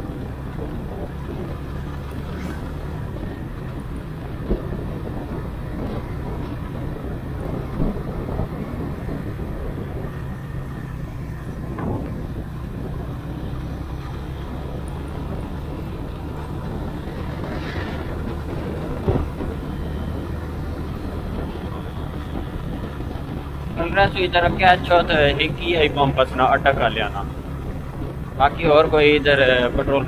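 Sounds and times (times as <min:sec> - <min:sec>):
motorcycle engine and road noise: 0:00.0 - 0:30.0.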